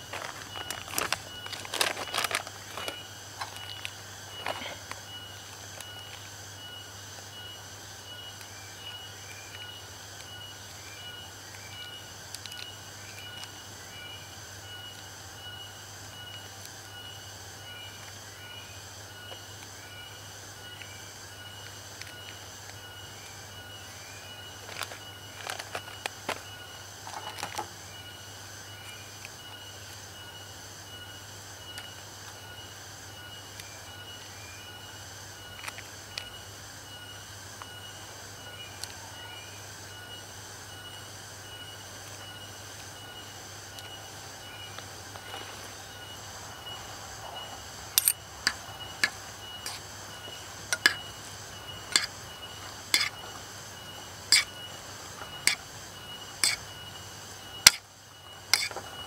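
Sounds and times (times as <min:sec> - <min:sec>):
insect pulsing trill: 0:00.0 - 0:59.0
insects shrill calling: 0:00.0 - 0:59.0.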